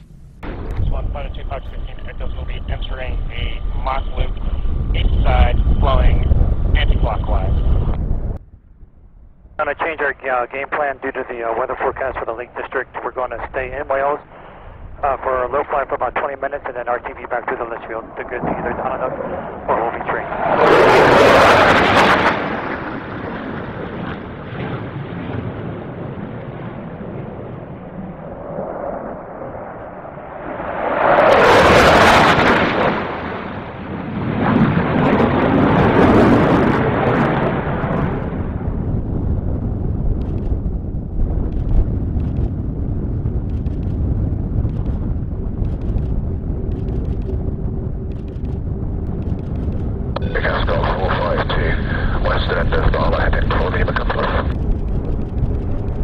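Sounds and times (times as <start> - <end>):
fighter jet passing: 0.0 - 56.0
turboprop aircraft rumble: 0.0 - 56.0.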